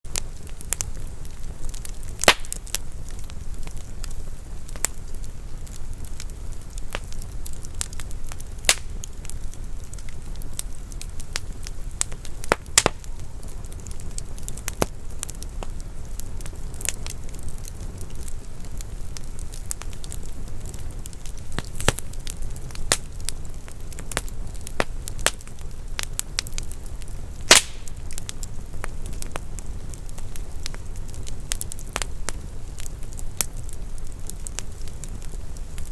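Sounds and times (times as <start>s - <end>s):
low rumble of flames: 0.0s - 35.9s
crackles and pops of burning logs: 0.1s - 35.9s.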